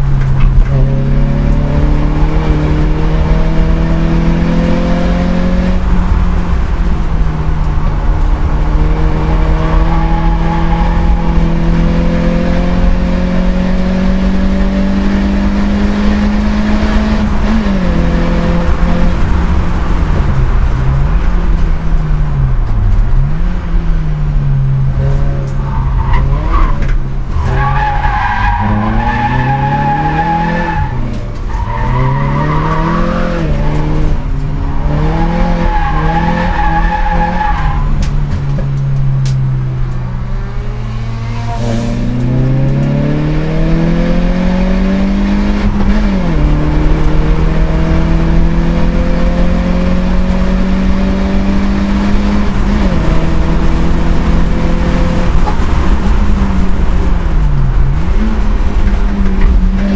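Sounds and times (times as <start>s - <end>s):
rally car engine accelerating: 0.0s - 59.9s.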